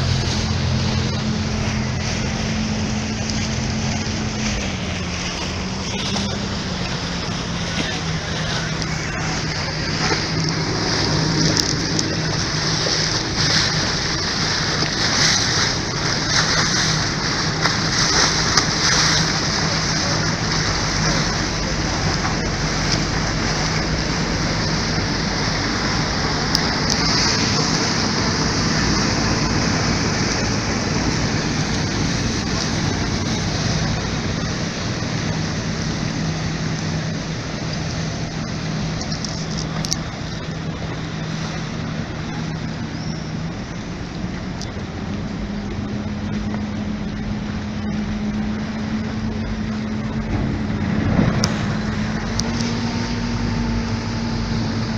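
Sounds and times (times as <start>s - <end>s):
motorboat engine humming: 0.0s - 54.9s
water splashing along hull: 0.0s - 54.9s.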